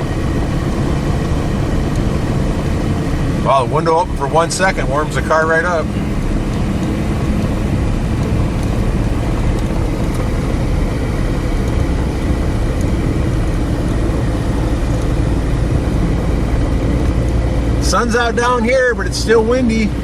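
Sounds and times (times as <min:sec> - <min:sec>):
car driving road noise: 0:00.0 - 0:20.0.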